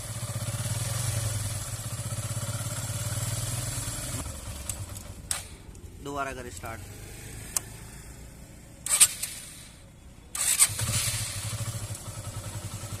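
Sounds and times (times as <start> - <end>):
motorcycle engine starting and idling: 0.0 - 13.0.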